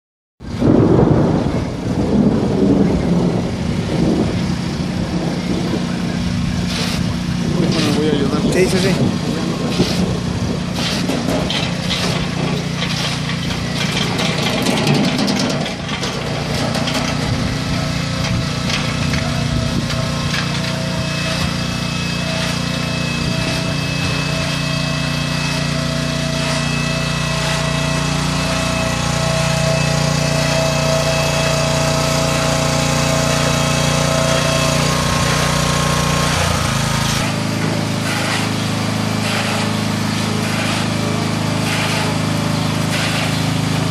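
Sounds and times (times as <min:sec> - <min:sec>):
tractor engine running under load: 0:01.6 - 0:43.9.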